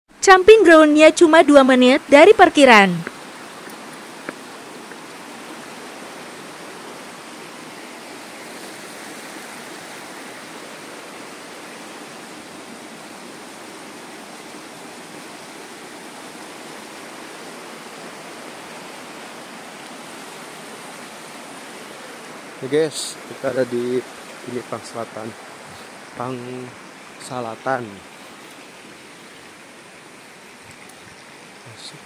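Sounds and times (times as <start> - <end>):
river rushing over stones: 1.5 - 32.0.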